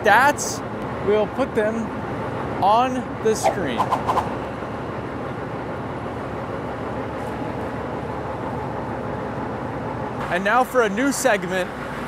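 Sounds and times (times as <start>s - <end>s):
heavy diesel machinery rumble: 0.0s - 12.0s.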